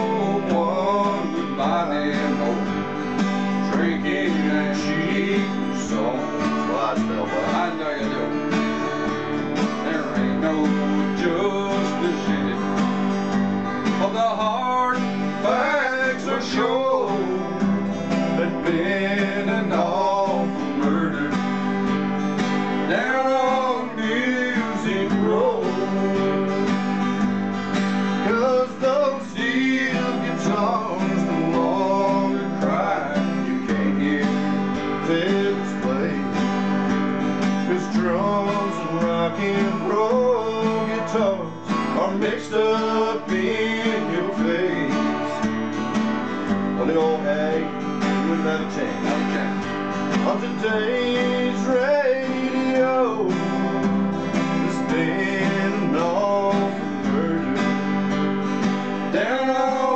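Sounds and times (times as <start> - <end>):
man singing: 0.0 - 45.6, 46.5 - 59.9
acoustic guitars strummed: 0.0 - 59.9.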